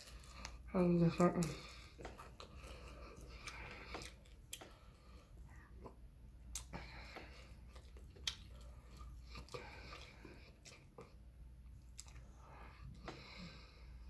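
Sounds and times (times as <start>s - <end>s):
quiet chewing: 0.0s - 13.8s.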